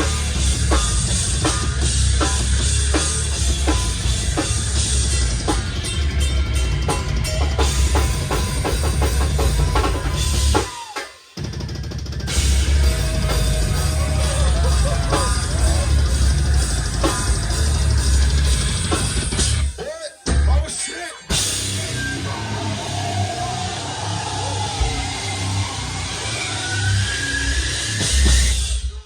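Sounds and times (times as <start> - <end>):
drum kit: 0.0 - 29.0
hardcore band playing live: 0.0 - 29.0.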